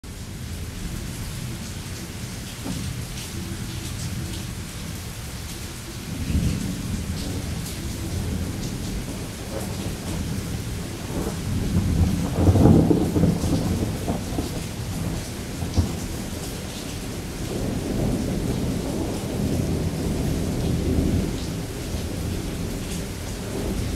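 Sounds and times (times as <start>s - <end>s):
heavy rain falling: 0.0s - 23.9s
thunder rumbling: 0.4s - 23.9s.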